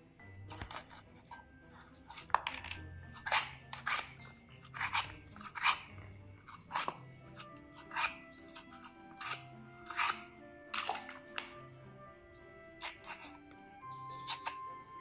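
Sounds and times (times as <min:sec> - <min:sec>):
metal spoon scraping melon: 0:00.4 - 0:11.6, 0:12.7 - 0:13.4, 0:14.0 - 0:14.7.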